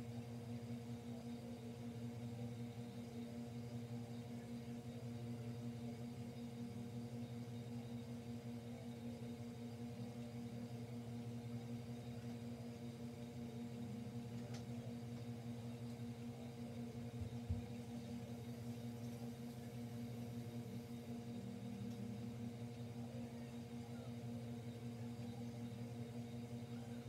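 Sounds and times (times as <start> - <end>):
steady low electrical hum: 0.0 - 27.0.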